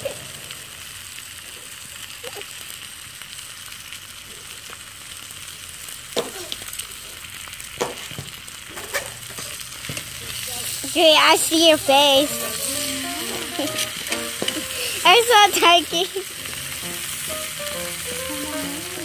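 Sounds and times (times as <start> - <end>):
steak sizzling in skillet: 0.0 - 19.0.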